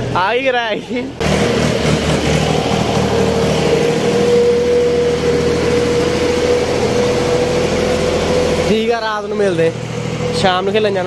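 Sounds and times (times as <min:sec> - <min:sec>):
steady whining tone: 0:01.2 - 0:11.0
tractor diesel engine running: 0:01.2 - 0:11.0.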